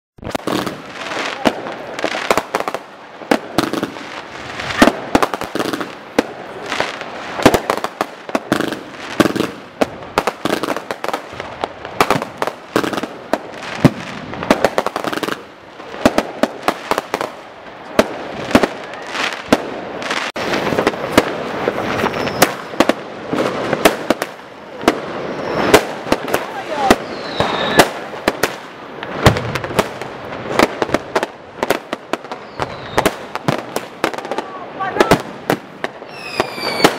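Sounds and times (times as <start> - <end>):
firecrackers crackling: 0.2 - 36.9
fireworks banging: 0.2 - 36.9.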